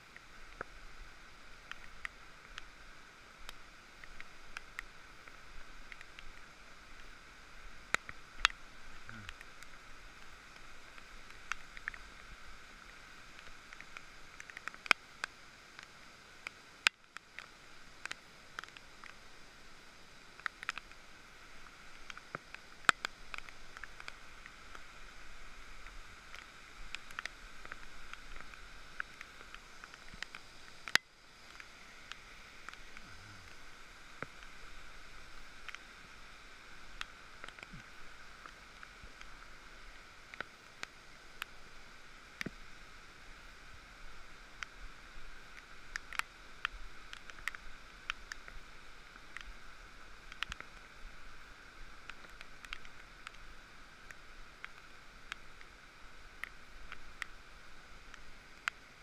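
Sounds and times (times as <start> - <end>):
high hiss-like drone: 0.0 - 59.0.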